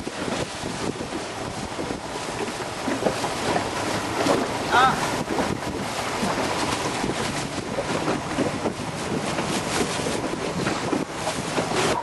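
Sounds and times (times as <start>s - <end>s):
waves lapping: 0.0s - 12.0s
wind buffeting microphone: 0.0s - 12.0s.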